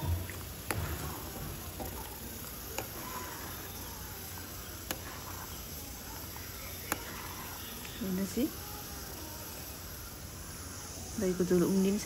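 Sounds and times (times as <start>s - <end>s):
curry simmering hiss: 0.0s - 12.0s.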